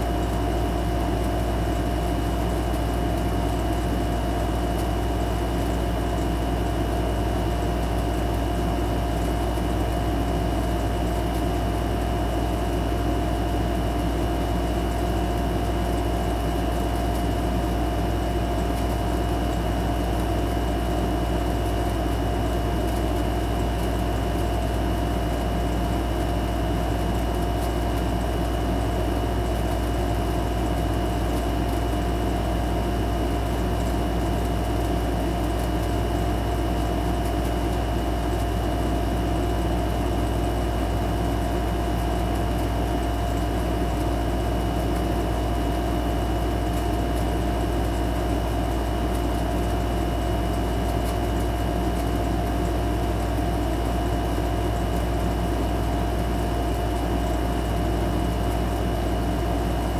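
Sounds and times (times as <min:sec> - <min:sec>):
machine hum with whine: 0:00.0 - 0:59.9.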